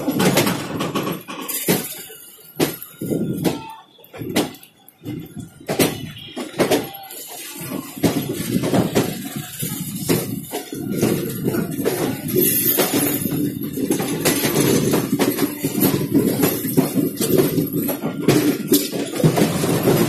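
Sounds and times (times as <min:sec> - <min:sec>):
train coach rumble: 0:00.0 - 0:20.0
wheels knocking and rattling on track: 0:00.0 - 0:20.0.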